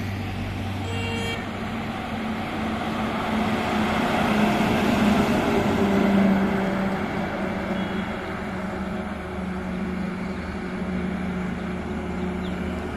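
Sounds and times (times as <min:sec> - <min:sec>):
low engine hum: 0:00.0 - 0:12.9
truck passing at speed: 0:00.0 - 0:12.9.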